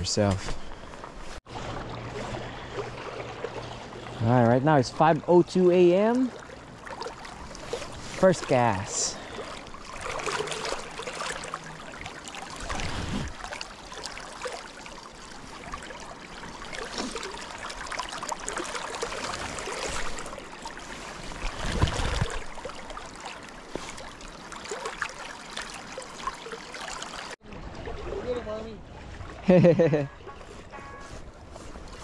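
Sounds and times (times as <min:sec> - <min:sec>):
river current rushing: 0:01.6 - 0:29.3.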